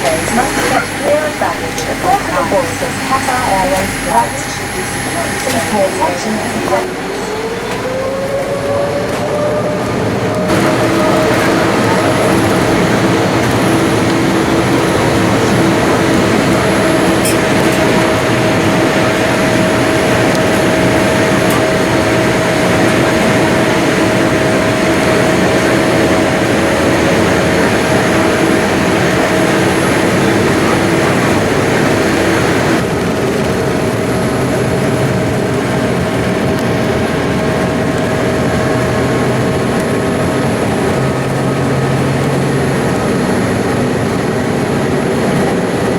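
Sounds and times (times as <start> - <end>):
jet engine cabin noise: 0.0 - 45.9.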